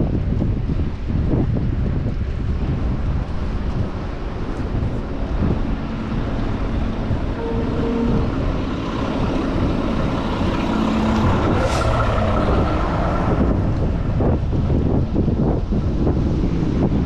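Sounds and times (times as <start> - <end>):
wind on microphone: 0.0 - 17.0
passing car engines: 2.0 - 17.0
heavy vehicle passing: 2.2 - 17.0.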